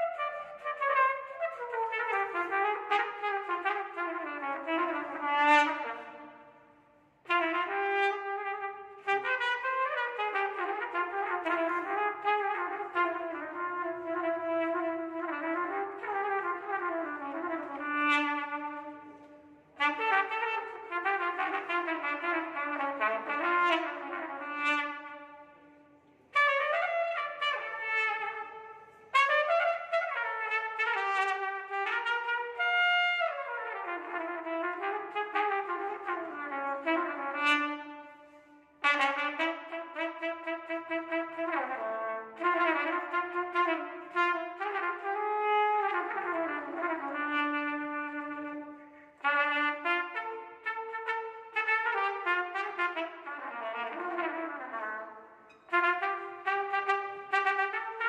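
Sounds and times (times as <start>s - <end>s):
solo trumpet melody: 0.0s - 58.0s.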